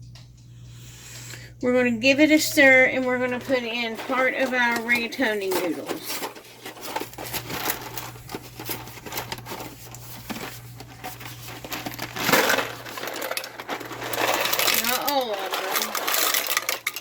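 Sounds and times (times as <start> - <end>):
dry pasta rattling: 2.4 - 17.0
packaging crinkle: 3.0 - 17.0.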